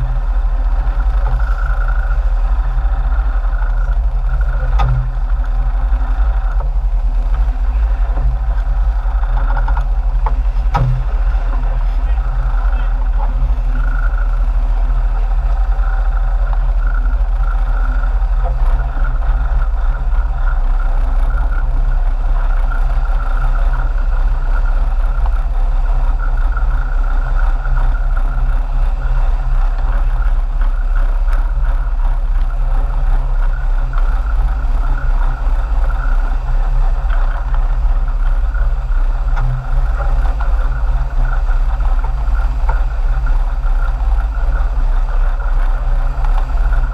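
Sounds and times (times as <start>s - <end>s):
boat engines droning: 0.0s - 46.9s.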